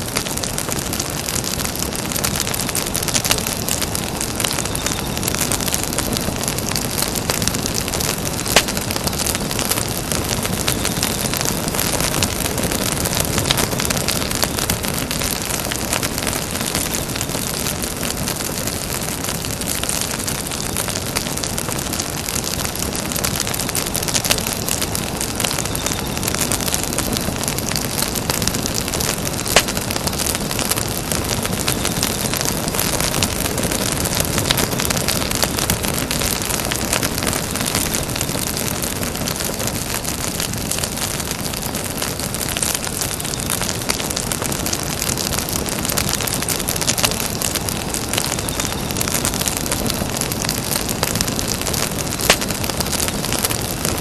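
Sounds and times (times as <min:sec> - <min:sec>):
campfire flames hissing and crackling: 0:00.0 - 0:54.0
wood popping: 0:04.4 - 0:47.4, 0:48.1 - 0:53.9.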